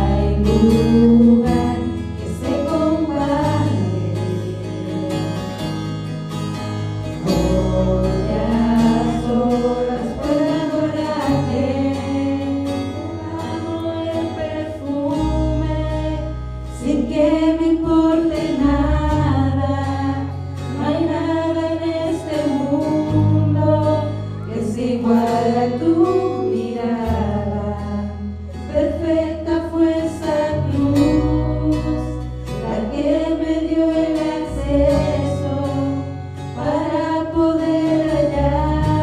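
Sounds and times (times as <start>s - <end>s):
voices singing: 0.0s - 5.6s, 7.2s - 39.0s
worship band music: 0.0s - 39.0s.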